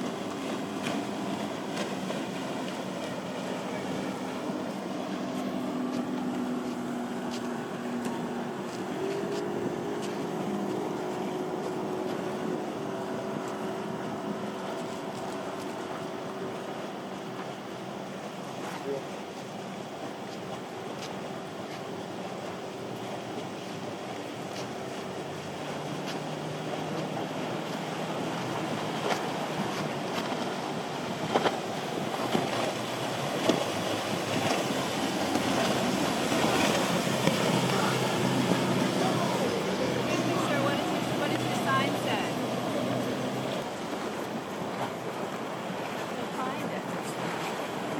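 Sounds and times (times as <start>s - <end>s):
motorboat engine humming: 0.0s - 47.9s
surf: 0.0s - 47.9s
water wash: 0.0s - 47.9s.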